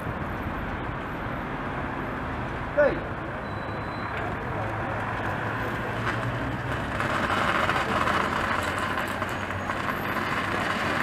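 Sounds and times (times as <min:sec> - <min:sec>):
bus passing close by: 0:00.0 - 0:11.0
street traffic: 0:00.0 - 0:11.0.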